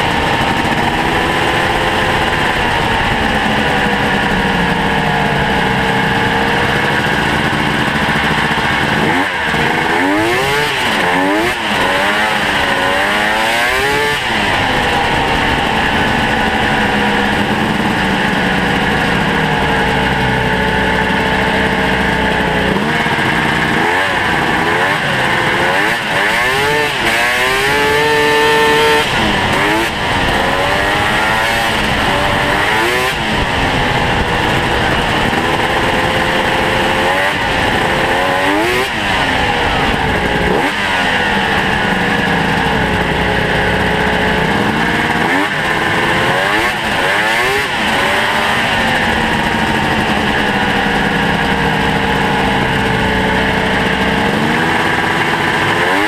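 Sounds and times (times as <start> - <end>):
snowmobile two-stroke engine revving: 0.0 - 56.0.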